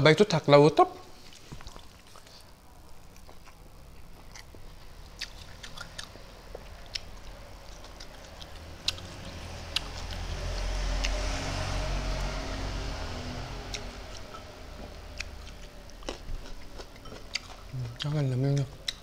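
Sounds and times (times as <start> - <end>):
wet chewing: 1.2 - 11.6, 13.6 - 19.0.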